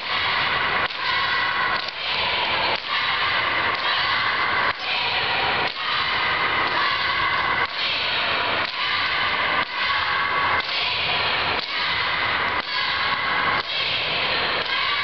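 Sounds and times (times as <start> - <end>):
dense din in a hall: 0.0 - 15.0.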